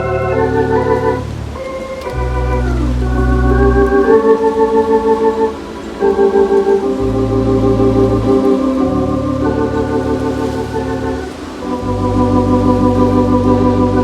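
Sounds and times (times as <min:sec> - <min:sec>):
deep bass notes: 0:00.0 - 0:04.7, 0:06.7 - 0:14.0
organ playing with tremolo: 0:00.0 - 0:14.0.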